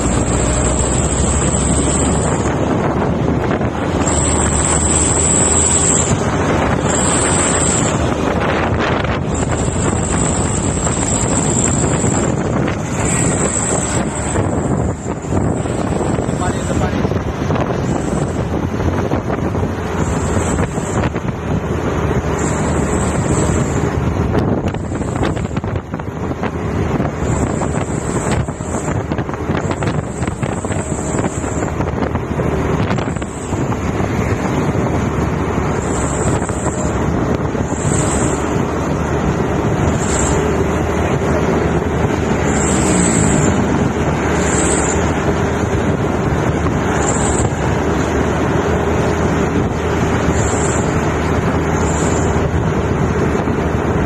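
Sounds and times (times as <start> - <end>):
trucks driving on road: 0.0 - 54.0
wind buffeting microphone: 0.0 - 54.0.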